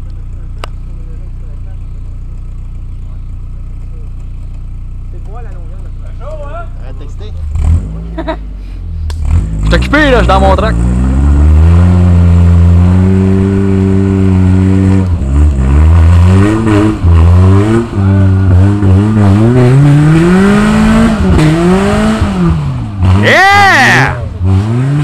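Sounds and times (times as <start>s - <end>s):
car engine revving under load: 0.0s - 25.0s.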